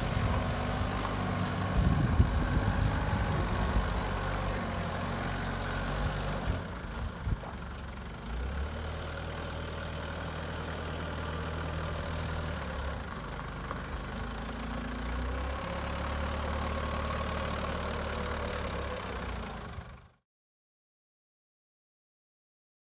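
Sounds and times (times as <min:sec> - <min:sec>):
forklift diesel engine running: 0:00.0 - 0:20.2.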